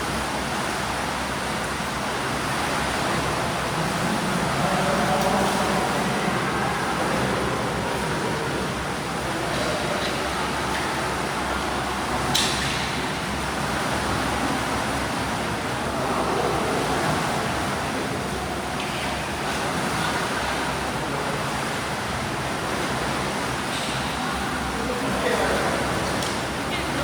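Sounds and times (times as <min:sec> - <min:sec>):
splashing water from swimmers: 0:00.0 - 0:27.0.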